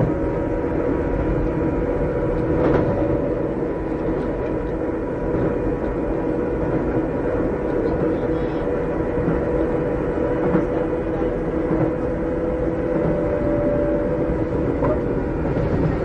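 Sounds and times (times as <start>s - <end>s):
train motor and gear hum: 0.0s - 16.0s
train wheels rumbling: 0.0s - 16.0s.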